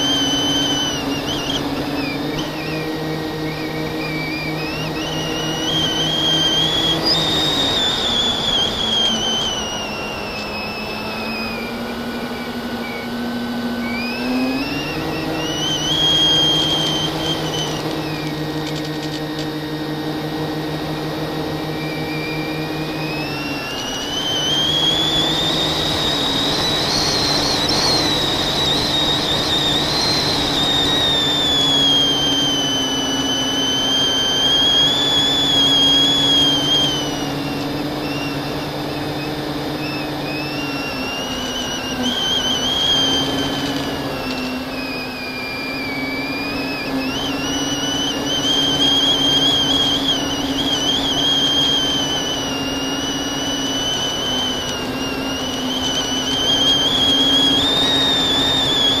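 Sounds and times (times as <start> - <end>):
drone motors whining: 0.0 - 59.0
low hum: 0.0 - 59.0.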